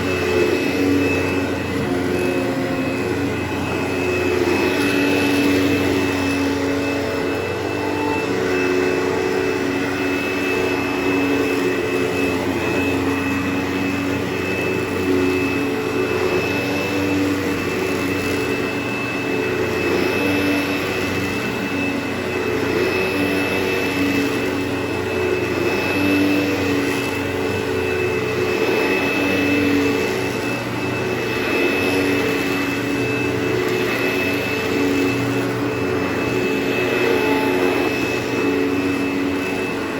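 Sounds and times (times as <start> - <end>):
carpet cleaning machine motor whine: 0.0 - 39.9.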